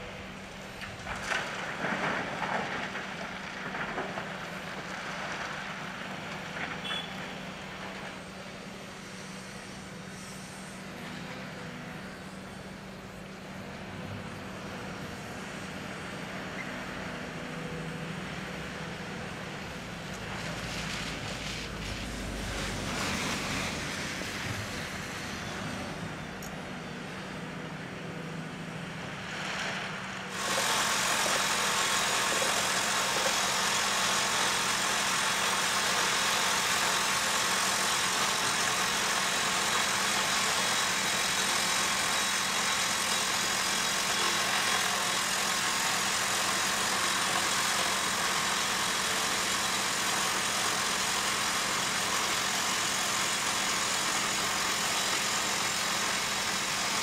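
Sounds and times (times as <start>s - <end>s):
dump truck diesel engine: 0.0s - 57.0s
heavy machinery engine with hiss: 0.1s - 57.0s.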